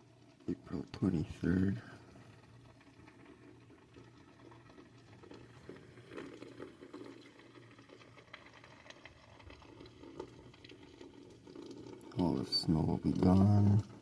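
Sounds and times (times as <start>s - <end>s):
light rain patter: 0.0s - 14.0s.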